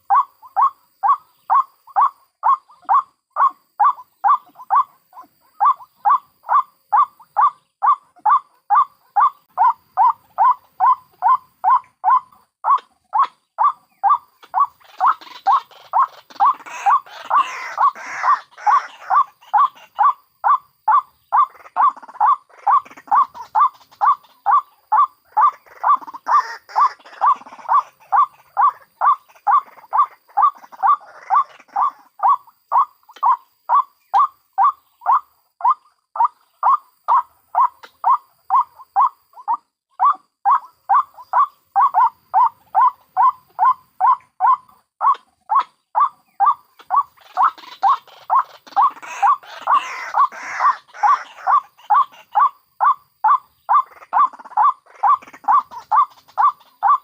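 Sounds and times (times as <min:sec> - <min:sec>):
harsh scratchy bird chattering: 0:00.0 - 0:57.0
waterhen repeated calling note: 0:00.0 - 0:57.0.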